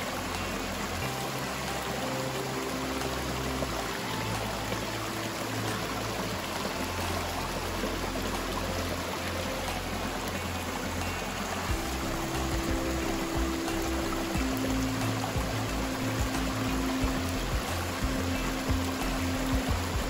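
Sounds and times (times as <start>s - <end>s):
background music: 0.0s - 20.0s
water pouring: 0.0s - 20.0s.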